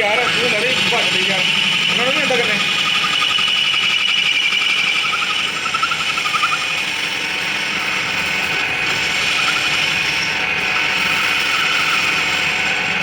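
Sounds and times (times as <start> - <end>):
machinery whine: 0.0 - 13.0
mechanical rattle: 0.0 - 13.0.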